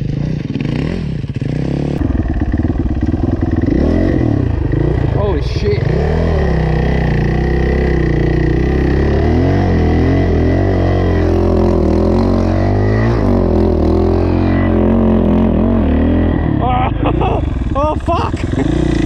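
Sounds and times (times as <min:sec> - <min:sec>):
dirt bike engine at low revs: 0:00.0 - 0:19.0.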